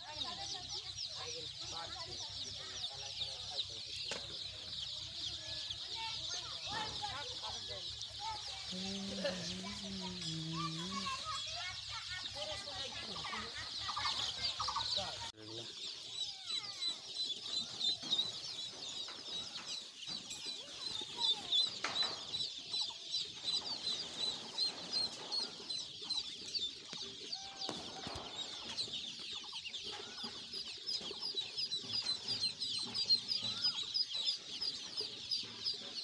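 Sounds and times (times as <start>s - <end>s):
ducklings peeping: 0.0s - 36.0s.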